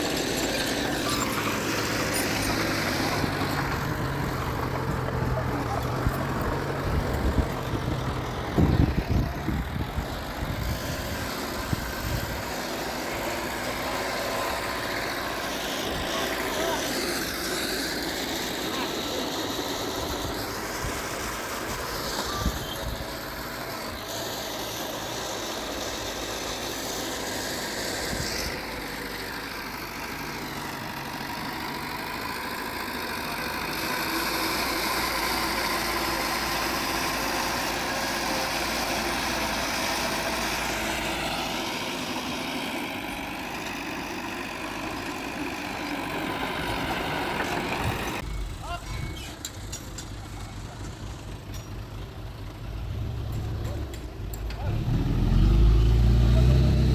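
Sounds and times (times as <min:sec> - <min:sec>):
heavy machinery diesel engine running: 0:00.0 - 0:56.9.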